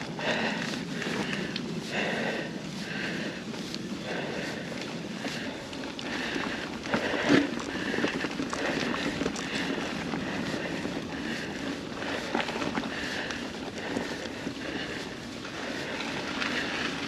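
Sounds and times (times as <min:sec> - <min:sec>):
bike tyres rolling on dirt: 0:00.0 - 0:17.0
bike rattling over bump: 0:02.9 - 0:17.0.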